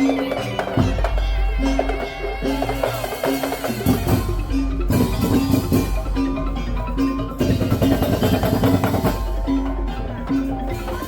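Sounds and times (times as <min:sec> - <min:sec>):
wooden slit drums and drums: 0:00.0 - 0:11.0.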